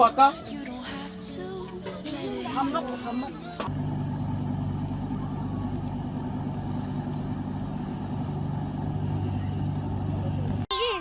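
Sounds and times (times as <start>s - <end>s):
low vehicle engine drone: 0.0s - 10.7s.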